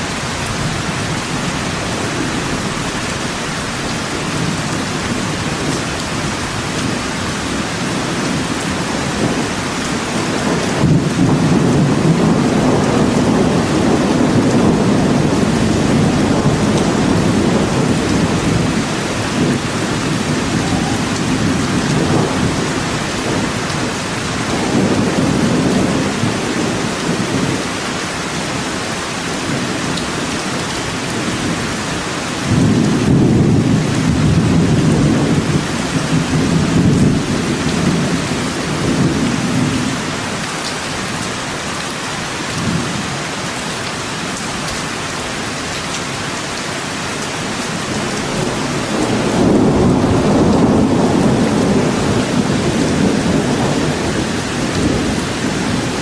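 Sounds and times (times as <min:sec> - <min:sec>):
thunder rumbling: 0:00.0 - 0:40.4, 0:47.8 - 0:56.0
steady rain: 0:00.0 - 0:56.0.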